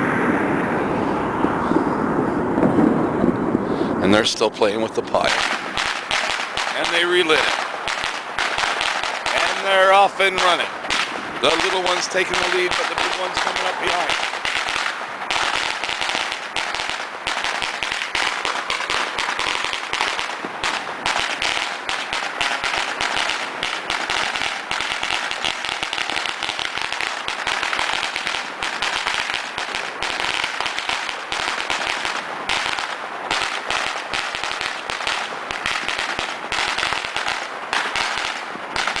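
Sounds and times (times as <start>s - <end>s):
firecrackers crackling: 0.0s - 39.0s.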